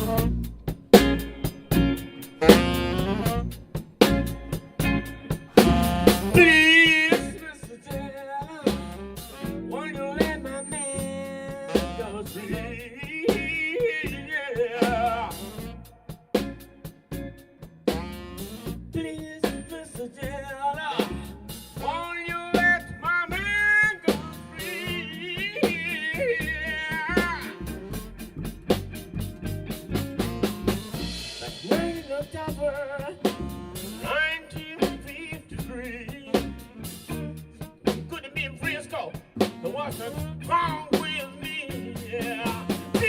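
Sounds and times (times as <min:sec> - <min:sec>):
rock and roll band playing: 0:00.0 - 0:43.0
snare and rimshot drum beat: 0:00.0 - 0:43.0.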